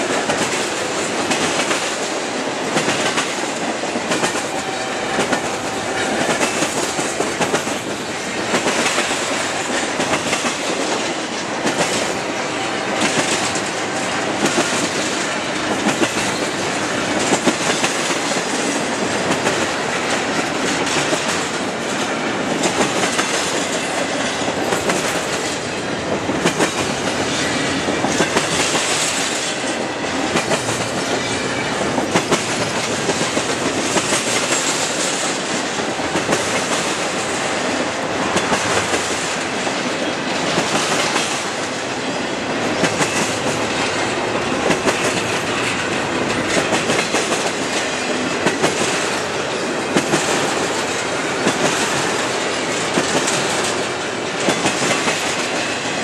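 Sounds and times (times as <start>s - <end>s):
freight train rumbling past: 0.0s - 56.0s
train wheel clicks: 0.0s - 56.0s.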